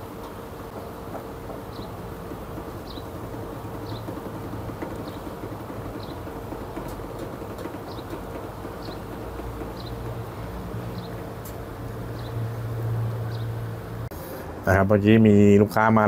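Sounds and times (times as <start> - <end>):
press machine hum: 0.0 - 14.9.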